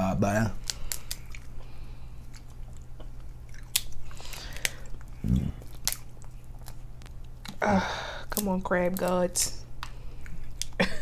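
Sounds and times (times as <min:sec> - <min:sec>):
biting and chewing food: 0:00.2 - 0:10.9.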